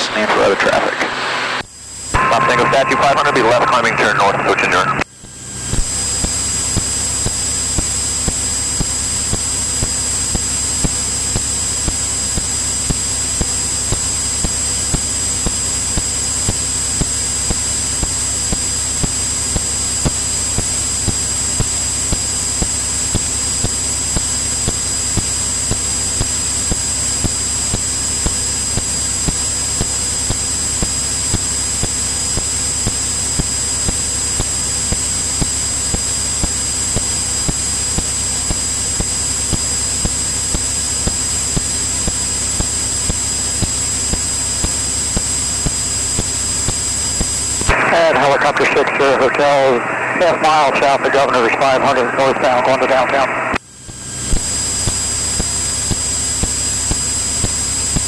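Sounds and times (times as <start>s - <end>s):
airplane engine and propeller drone: 0.0s - 58.0s
high-pitched whine: 0.0s - 58.0s.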